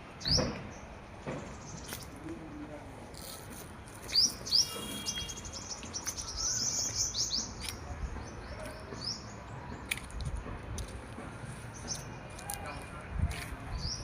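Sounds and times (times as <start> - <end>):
small birds chirping: 0.2 - 2.6, 3.2 - 10.3, 11.4 - 14.0.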